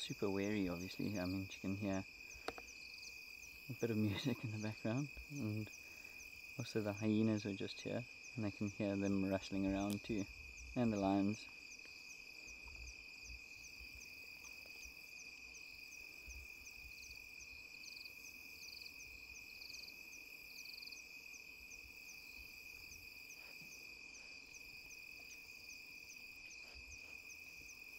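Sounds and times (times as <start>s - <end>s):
crickets chirping: 0.0s - 27.9s
high-pitched insect drone: 0.0s - 27.9s
insect trills: 0.0s - 27.9s.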